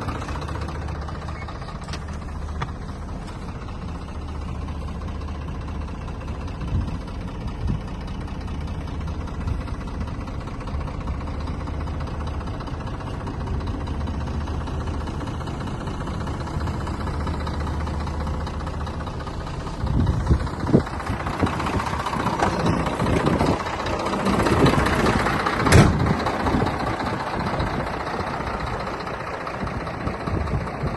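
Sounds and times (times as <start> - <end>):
diesel engine idling: 0.0 - 30.9
engine knocks: 0.0 - 30.9.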